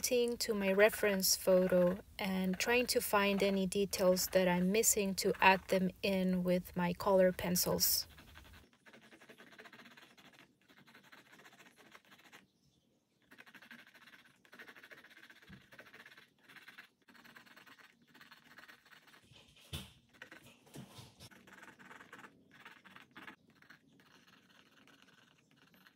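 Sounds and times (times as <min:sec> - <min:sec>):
pencil scratching on canvas: 0:00.0 - 0:12.4, 0:13.3 - 0:19.2, 0:20.2 - 0:25.9.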